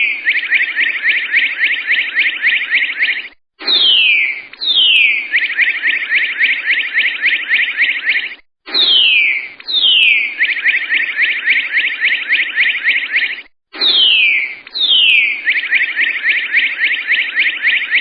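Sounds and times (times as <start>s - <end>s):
bird whistling and chirping: 2.4s - 16.9s.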